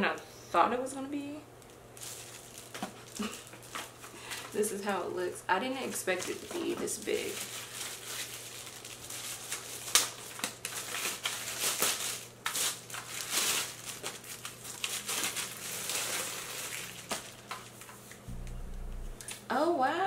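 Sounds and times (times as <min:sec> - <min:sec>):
plastic wrapping crinkling: 0:01.6 - 0:04.6, 0:06.1 - 0:19.2.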